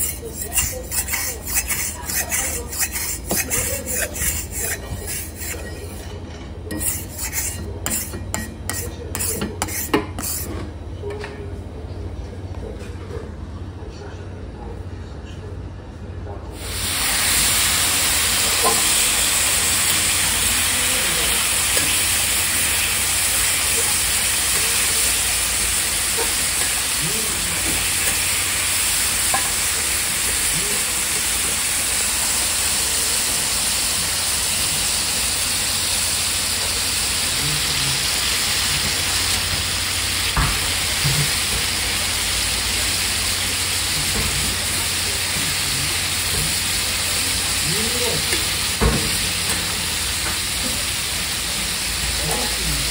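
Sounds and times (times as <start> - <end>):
meat sizzling on griddle: 0.0 - 6.0, 6.8 - 8.1, 16.6 - 52.9.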